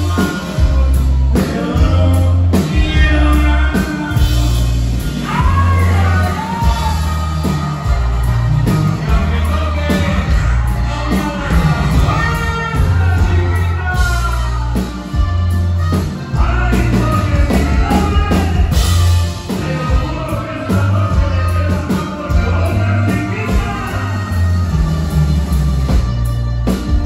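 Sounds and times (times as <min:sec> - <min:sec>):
accordion: 0:00.0 - 0:27.0
band playing loudly: 0:00.0 - 0:27.0
drums: 0:00.0 - 0:27.0
electric bass: 0:00.0 - 0:27.0.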